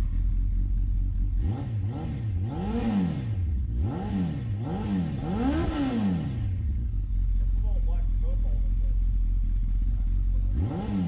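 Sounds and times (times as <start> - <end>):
motorcycle engine revving: 0.0 - 7.5, 8.6 - 11.0.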